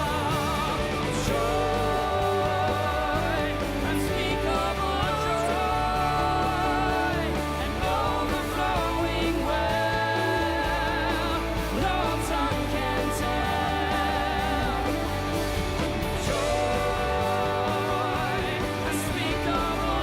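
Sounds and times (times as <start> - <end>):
person singing with vibrato: 0.0 - 20.0
sustained bass: 0.0 - 20.0.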